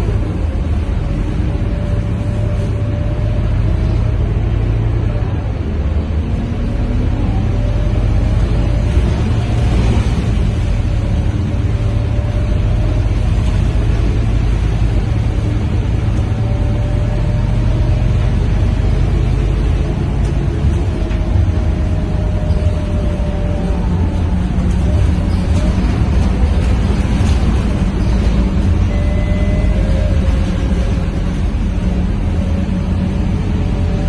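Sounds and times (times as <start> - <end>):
bus diesel engine droning: 0.0 - 34.0.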